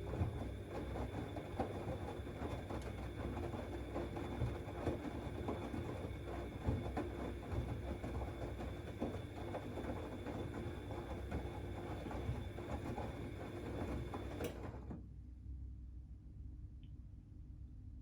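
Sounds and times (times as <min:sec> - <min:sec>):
washing machine motor hum: 0:00.0 - 0:14.7.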